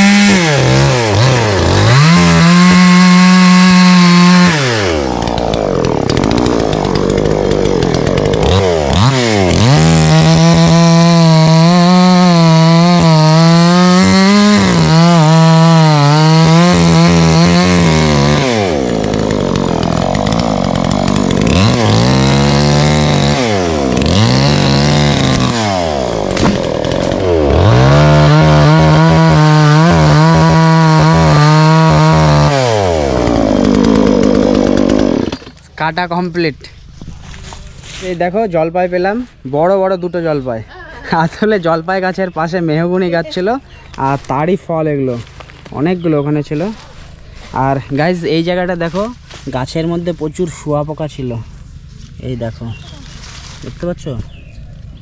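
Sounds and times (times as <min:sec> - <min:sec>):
chainsaw cutting wood: 0:00.0 - 0:38.3, 0:43.2 - 0:55.0.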